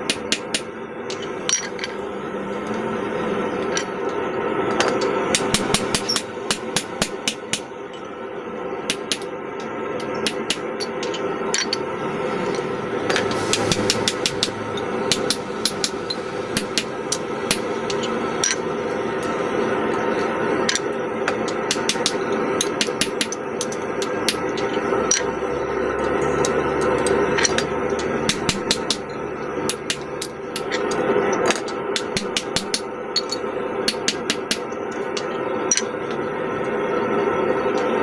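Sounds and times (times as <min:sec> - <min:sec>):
hammer striking steel on anvil: 0:00.0 - 0:01.9, 0:03.6 - 0:07.7, 0:08.9 - 0:11.8, 0:12.5 - 0:25.3, 0:26.0 - 0:35.9
steady background hum: 0:00.0 - 0:38.0.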